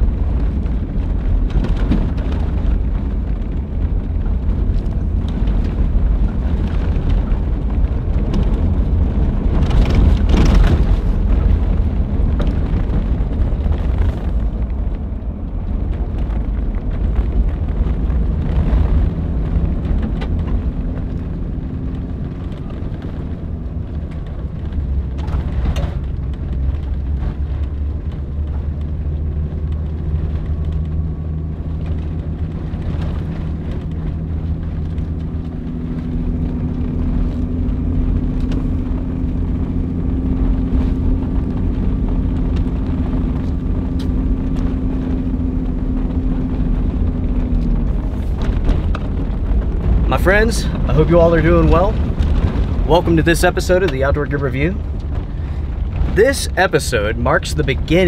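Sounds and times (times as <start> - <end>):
engine hum inside a car: 0.0 - 58.0
tyre and road noise: 0.0 - 58.0.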